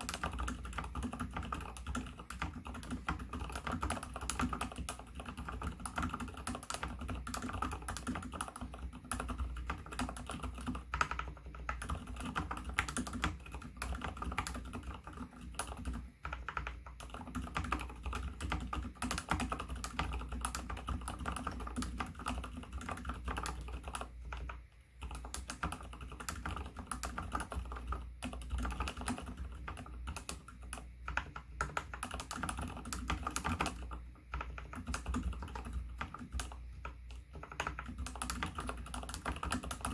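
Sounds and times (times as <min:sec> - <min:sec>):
fast typing on mechanical keyboard: 0:00.0 - 0:39.9
fingernails clicking on keycaps: 0:00.0 - 0:39.9.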